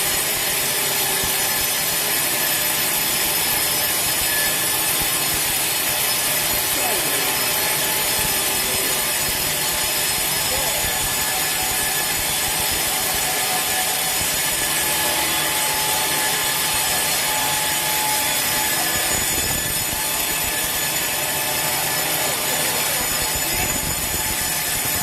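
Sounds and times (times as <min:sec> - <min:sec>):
saw cutting through log: 0:00.0 - 0:25.0.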